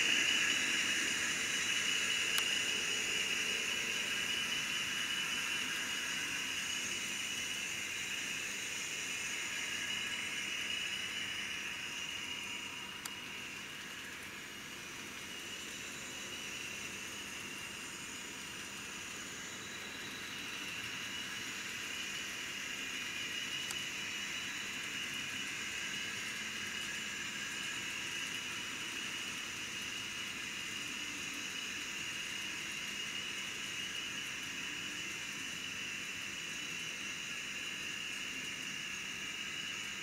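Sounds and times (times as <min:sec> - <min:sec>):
model train cars rolling on track: 0:00.0 - 0:40.0.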